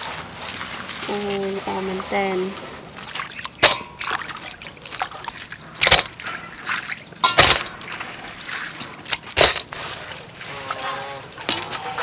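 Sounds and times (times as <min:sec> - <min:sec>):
water sloshing in steel basin: 0:00.0 - 0:12.0.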